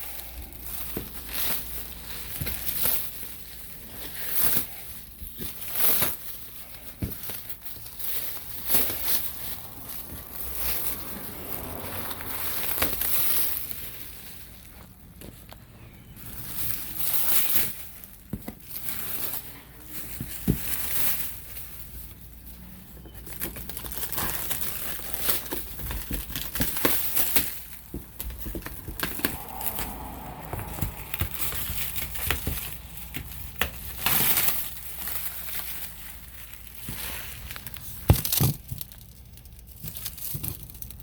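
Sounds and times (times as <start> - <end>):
plastic wrap crinkling and tearing: 0.0 - 41.0.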